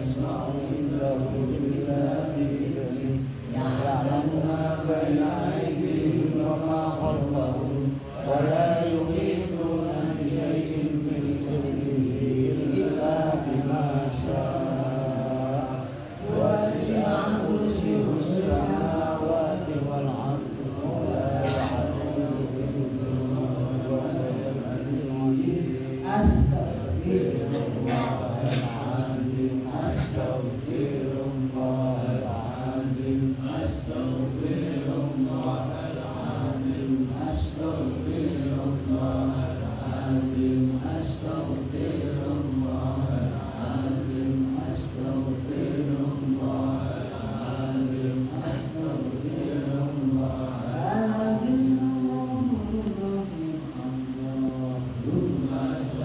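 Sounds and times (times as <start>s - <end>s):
man chanting recitation: 0.0s - 56.0s.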